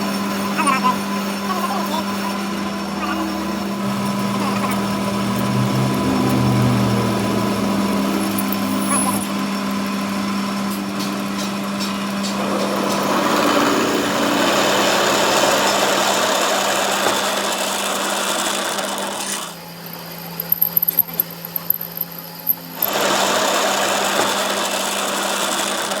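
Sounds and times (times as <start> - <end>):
thin high whine: 0.0 - 24.0
power tool running: 0.0 - 26.0.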